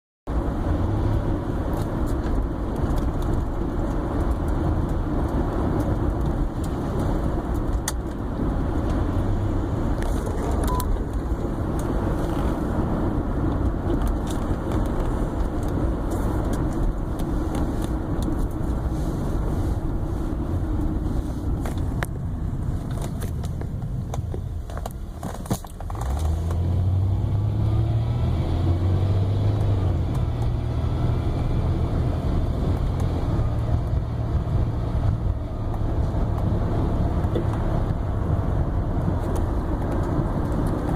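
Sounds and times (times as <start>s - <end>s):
car engine accelerating: 0.3s - 40.9s
road noise: 0.3s - 40.9s.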